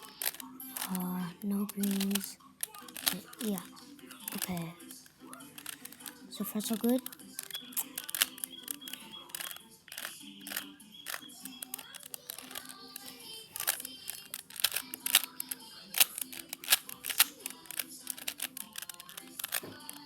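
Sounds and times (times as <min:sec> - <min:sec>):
plastic cube clicks: 0:00.0 - 0:20.0
soft background music: 0:00.0 - 0:20.0.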